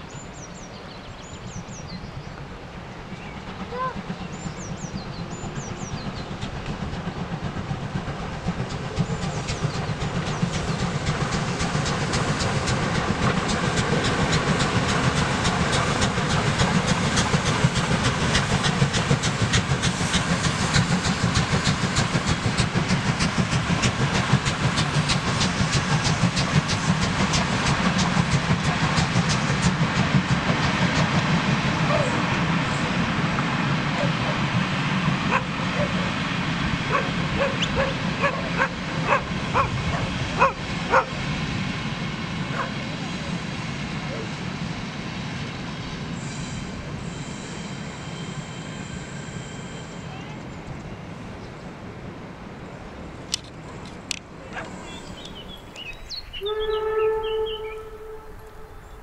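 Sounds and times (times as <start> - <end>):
steam locomotive exhaust beats: 0.1 - 51.5, 52.3 - 59.0
train coaches clattering: 3.0 - 51.7, 52.8 - 59.0.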